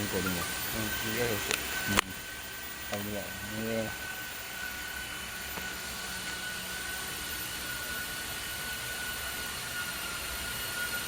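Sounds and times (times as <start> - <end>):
router high whine: 0.0 - 11.0
router hiss: 0.0 - 11.0.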